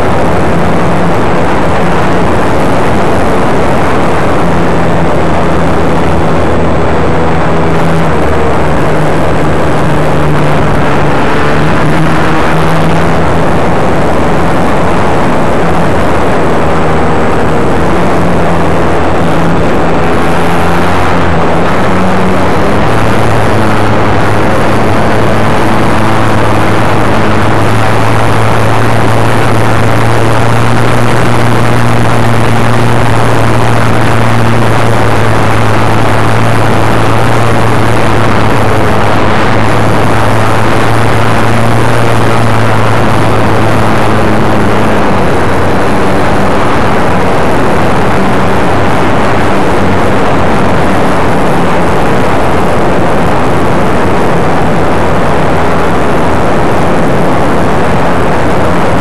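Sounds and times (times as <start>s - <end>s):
electric motor and propeller: 0.0s - 59.0s
wind rush over microphone: 0.0s - 59.0s.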